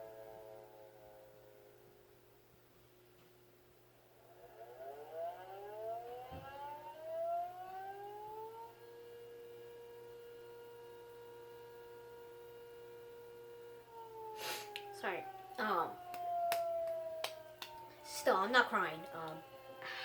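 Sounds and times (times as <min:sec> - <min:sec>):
tornado siren wailing: 0:00.0 - 0:02.2, 0:04.0 - 0:20.0.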